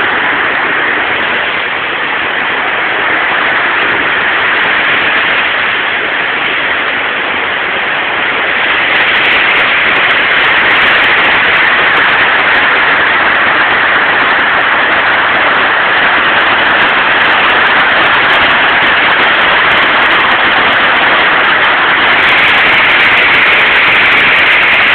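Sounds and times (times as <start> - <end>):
water rushing over dam spillway: 0.0 - 24.9.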